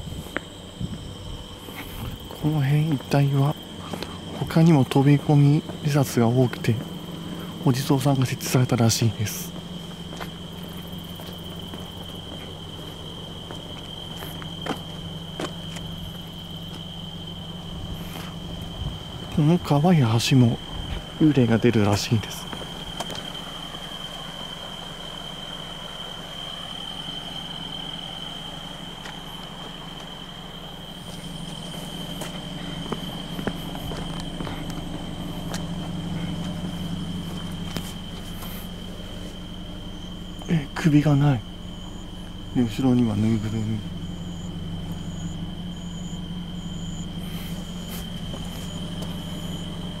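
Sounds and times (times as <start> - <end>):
low steady hum: 0.0 - 50.0
night insects trilling: 0.0 - 50.0.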